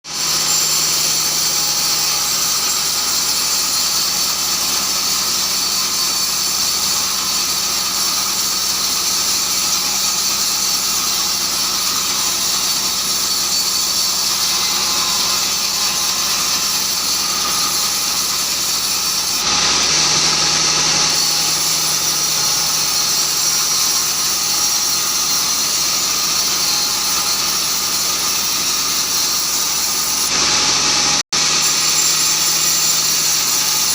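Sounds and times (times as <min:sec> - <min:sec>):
bandsaw blade whining: 0:00.0 - 0:33.9.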